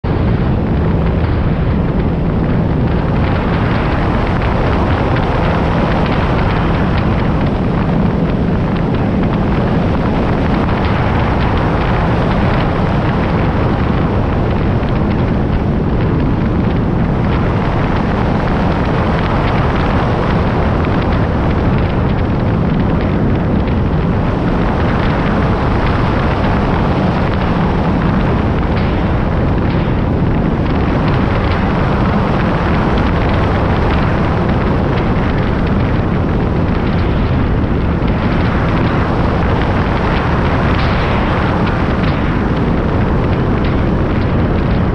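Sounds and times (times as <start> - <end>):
low even drone: 0.0 - 44.9
wind rush: 0.0 - 44.9
road noise on wet road: 0.1 - 44.9.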